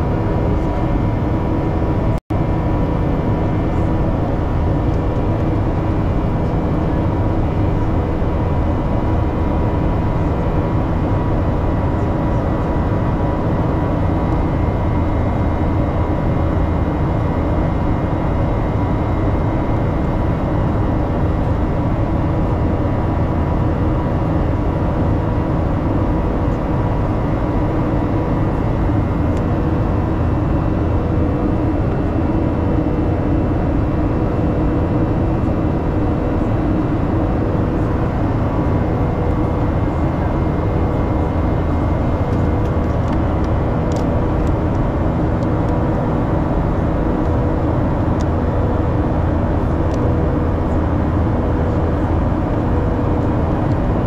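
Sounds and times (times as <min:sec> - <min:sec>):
jet engine cabin rumble: 0:00.0 - 0:54.0.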